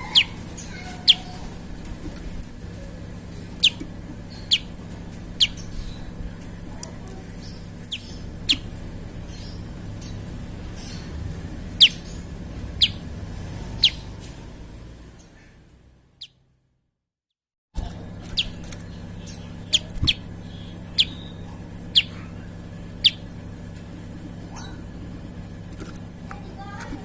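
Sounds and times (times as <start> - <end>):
bird calling: 0.0 - 14.3, 17.8 - 26.0
low steady hum: 0.0 - 16.2, 17.8 - 27.0.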